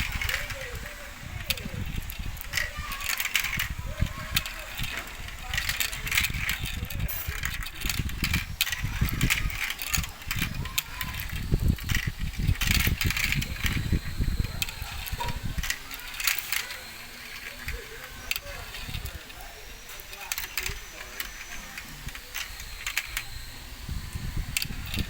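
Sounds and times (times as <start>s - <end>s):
marbles rolling down track: 0.0s - 23.3s.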